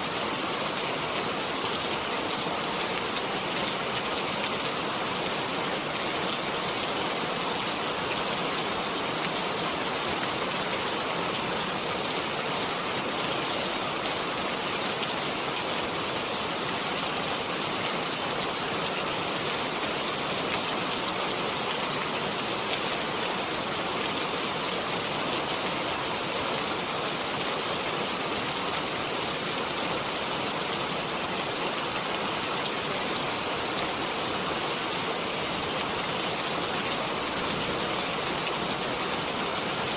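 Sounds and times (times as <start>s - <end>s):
rain pattering on a surface: 0.1s - 39.9s.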